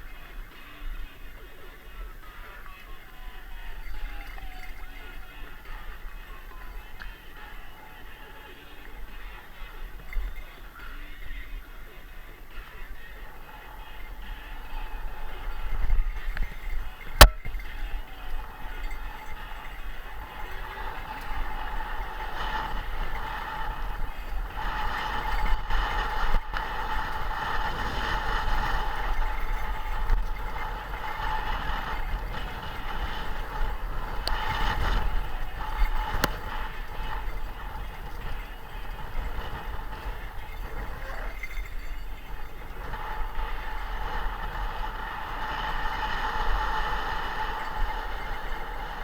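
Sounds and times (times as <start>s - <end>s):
constant whine: 0.0s - 49.0s
vehicle road noise: 0.0s - 49.0s.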